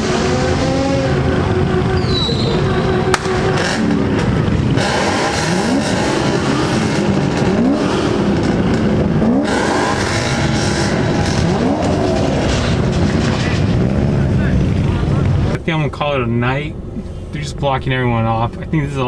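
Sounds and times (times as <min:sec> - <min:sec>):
car engines revving: 0:00.0 - 0:19.0
traffic noise: 0:00.0 - 0:19.0.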